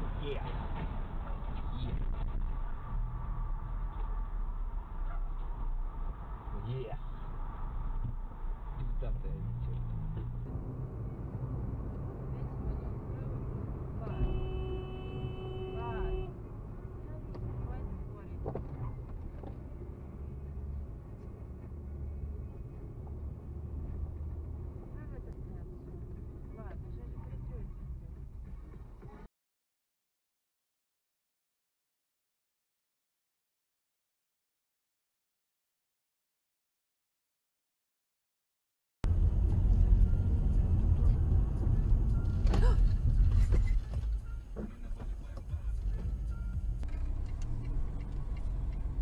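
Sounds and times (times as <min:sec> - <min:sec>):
car engine and tyres rumbling: 0:00.0 - 0:29.3, 0:39.0 - 0:49.0.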